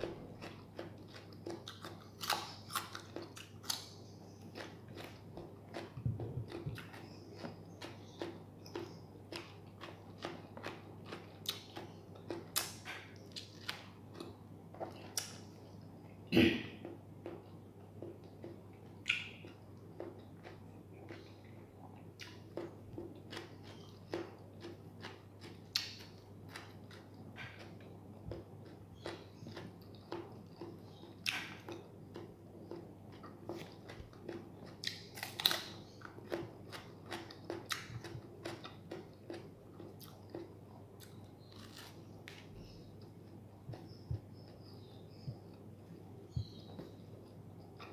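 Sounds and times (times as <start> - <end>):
person chewing with mouth smacks: 0.0 - 15.5, 16.8 - 47.9.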